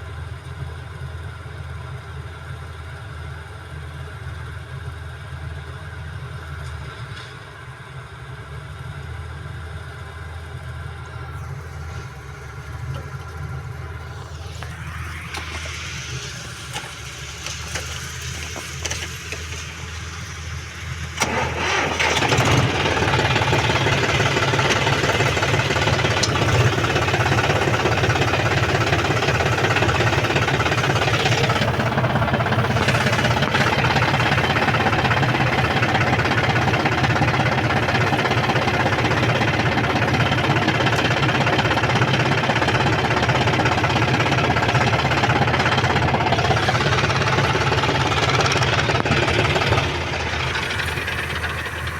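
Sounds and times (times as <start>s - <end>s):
combine harvester diesel engine: 0.0s - 51.9s.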